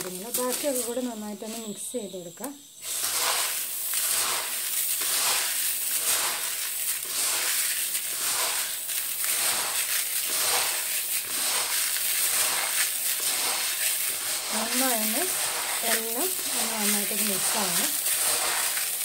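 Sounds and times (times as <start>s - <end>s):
dry grains rattling in plastic bowl: 0.0s - 1.8s, 2.8s - 19.0s.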